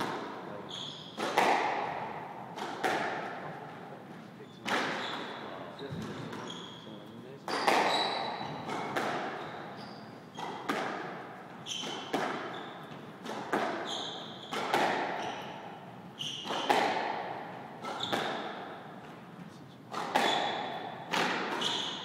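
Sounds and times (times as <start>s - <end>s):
squash ball hitting racquets and walls: 0.0s - 3.9s, 4.6s - 6.8s, 7.4s - 22.0s
shoes squeaking on court floor: 0.1s - 1.5s, 4.1s - 16.9s, 17.8s - 22.0s.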